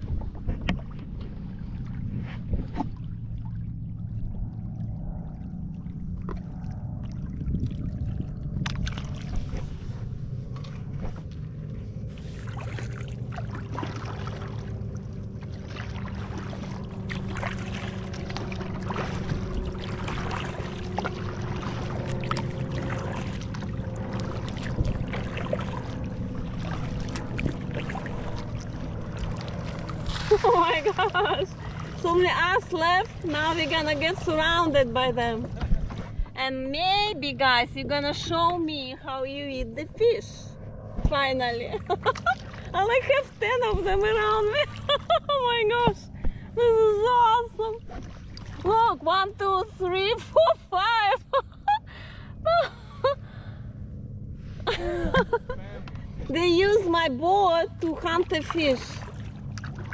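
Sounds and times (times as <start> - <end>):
paddle strokes splashing water: 0.0 - 38.5, 41.7 - 50.4, 55.6 - 59.9
steady low hum: 0.0 - 59.9.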